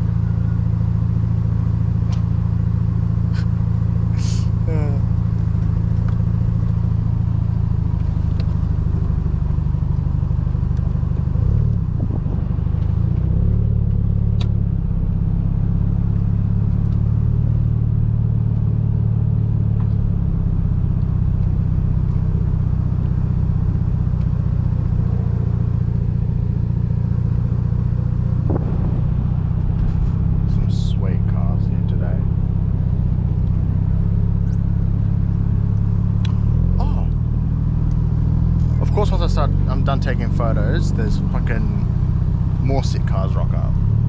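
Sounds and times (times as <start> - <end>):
rotary car engine at low revs: 0.0 - 44.0.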